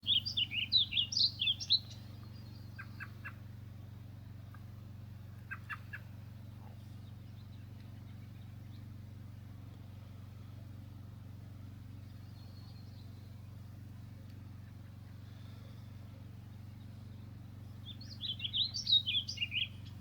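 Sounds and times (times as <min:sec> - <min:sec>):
distant cranes calling: 0:00.0 - 0:03.7, 0:04.5 - 0:20.0
low hum: 0:00.0 - 0:20.0
songbird chirping: 0:00.0 - 0:20.0.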